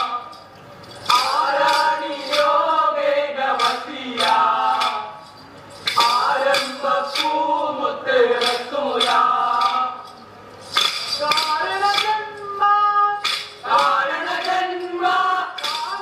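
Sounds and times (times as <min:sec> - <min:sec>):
wooden sticks clacking: 0:00.0 - 0:02.6, 0:03.6 - 0:07.4, 0:08.4 - 0:12.5, 0:13.2 - 0:16.0
men singing folk song: 0:01.1 - 0:05.2, 0:05.9 - 0:10.1, 0:11.2 - 0:16.0.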